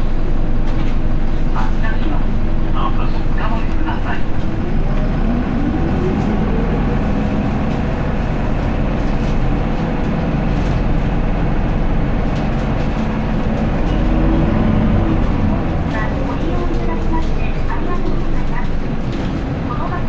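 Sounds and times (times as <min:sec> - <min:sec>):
bus diesel engine droning: 0:00.0 - 0:20.0
road noise: 0:02.2 - 0:20.0.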